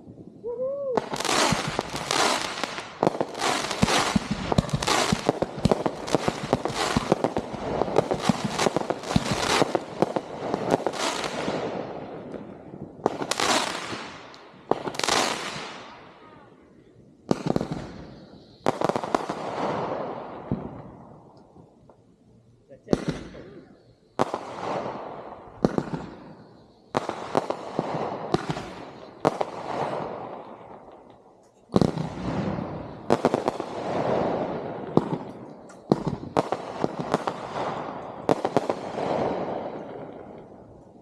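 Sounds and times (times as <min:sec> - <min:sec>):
fireworks bursting with crackling: 0:00.0 - 0:22.1, 0:22.8 - 0:41.0.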